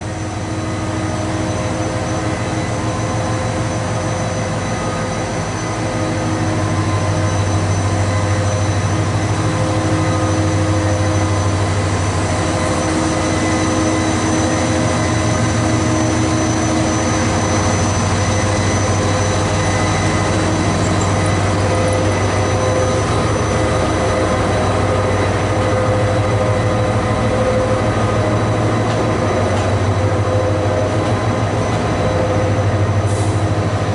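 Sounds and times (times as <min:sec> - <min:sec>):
diesel locomotive engine drone: 0:00.0 - 0:33.9
train rolling noise: 0:00.0 - 0:33.9.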